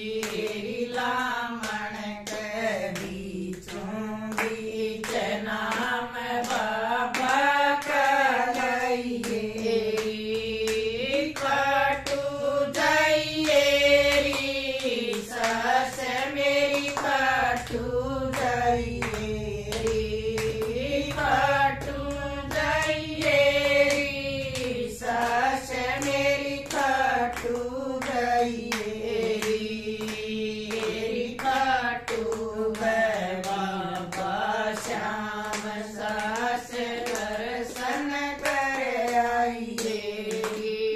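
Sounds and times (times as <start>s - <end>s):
hand-clapping: 0.0s - 40.9s
women singing devotional song: 0.0s - 40.9s.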